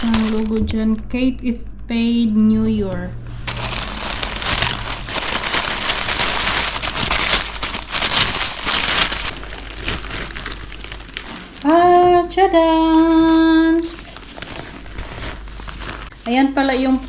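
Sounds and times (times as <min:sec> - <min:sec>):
packaging rustling and crinkling: 0:00.0 - 0:00.8, 0:03.4 - 0:17.0.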